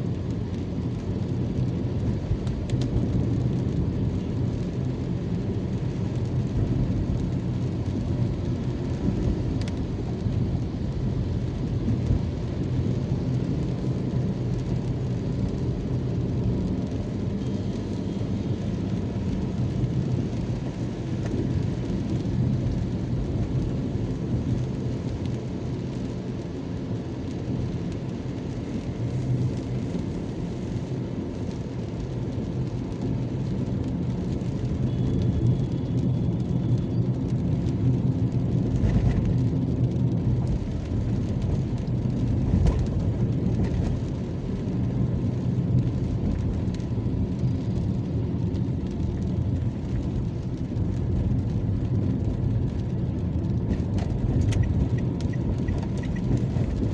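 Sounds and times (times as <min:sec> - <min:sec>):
engine and tyre rumble: 0:00.0 - 0:56.9
rain hissing: 0:00.1 - 0:56.9.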